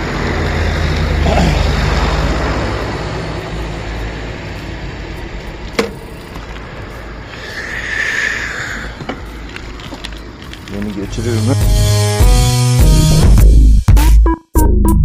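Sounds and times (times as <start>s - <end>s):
passing vehicle engine hum: 0.0s - 12.2s
steady road noise: 0.0s - 13.7s.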